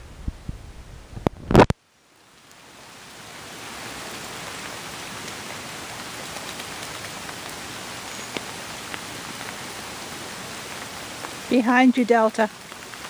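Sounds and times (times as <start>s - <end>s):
rain falling on standing water: 0.0s - 13.0s.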